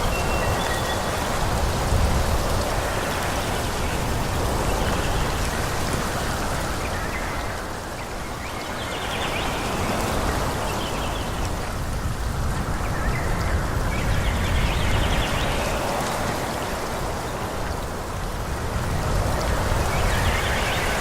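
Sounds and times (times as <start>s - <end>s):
wind rushing through forest: 0.0s - 21.0s.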